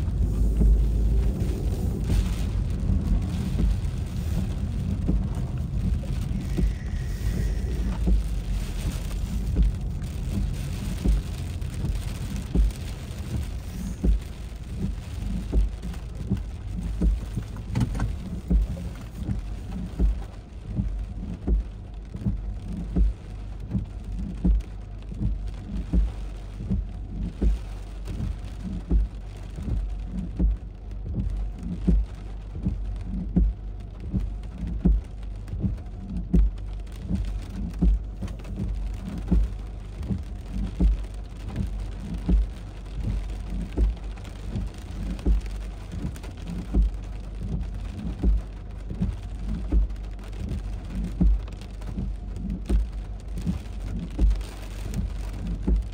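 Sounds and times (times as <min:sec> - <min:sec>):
rain hissing: 0:00.0 - 0:55.9.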